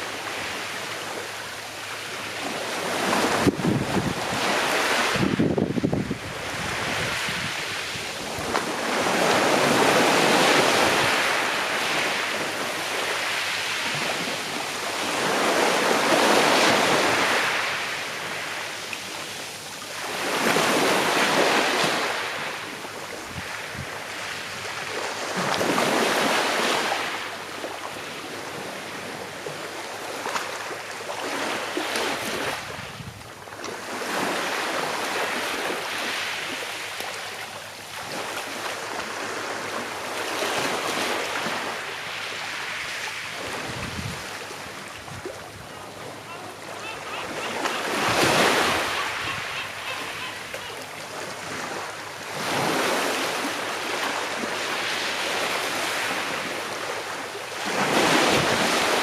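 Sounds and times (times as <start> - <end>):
sea waves washing on shore: 0.0 - 59.0.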